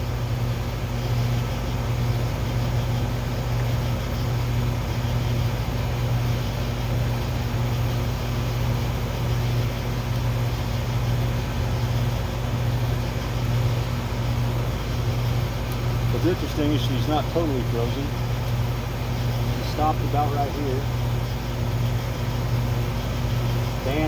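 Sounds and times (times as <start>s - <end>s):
air conditioner fan humming: 0.0s - 24.0s.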